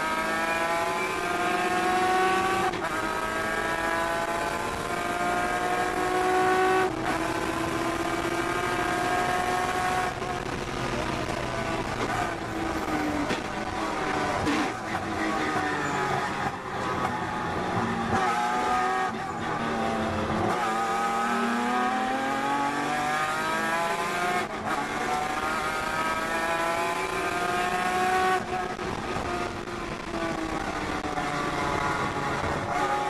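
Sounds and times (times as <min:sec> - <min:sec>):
race car engine accelerating: 0:00.0 - 0:33.0.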